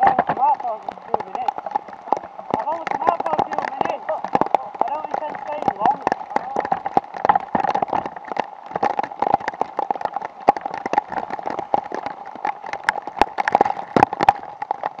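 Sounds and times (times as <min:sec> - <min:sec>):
heavy rain drops tapping: 0:00.0 - 0:15.0.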